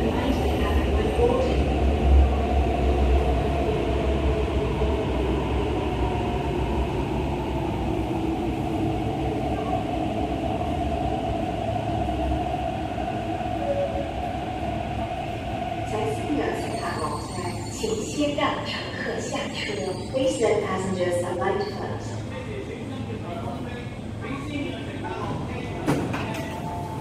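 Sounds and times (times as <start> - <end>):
electric train rumble and hum: 0.0 - 27.0.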